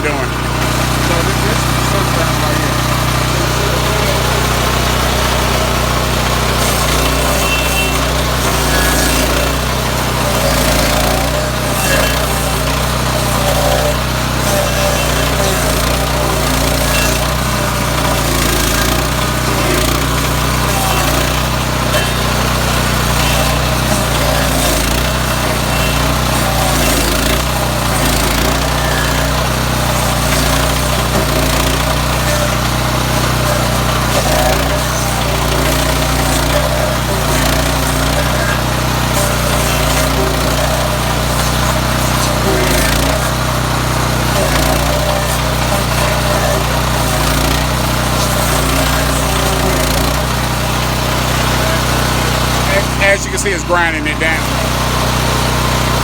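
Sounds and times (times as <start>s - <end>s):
cutting wheel grinding stump: 0.0s - 56.0s
small gas engine running: 0.0s - 56.0s.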